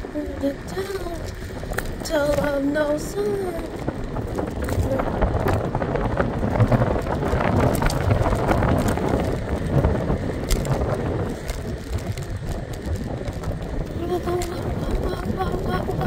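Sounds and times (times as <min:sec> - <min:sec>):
scooter wheels rumbling on pavement: 0:00.0 - 0:16.0
wind on microphone: 0:00.0 - 0:16.0
small rattles and clicks: 0:00.1 - 0:16.0.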